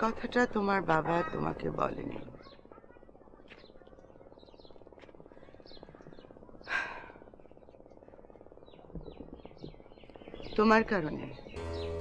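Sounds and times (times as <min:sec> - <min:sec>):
faint steady hum: 0:00.0 - 0:12.0
small birds chirping: 0:00.0 - 0:12.0.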